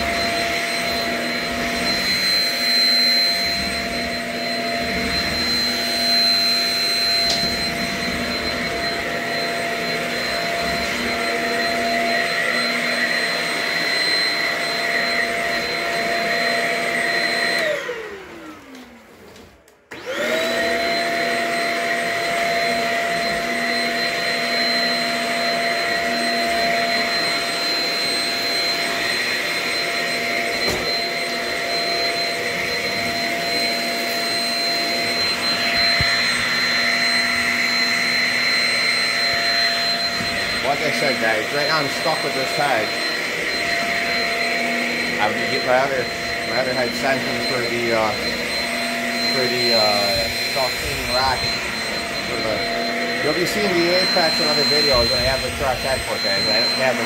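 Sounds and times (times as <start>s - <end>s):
vacuum motor whine: 0.0s - 57.0s.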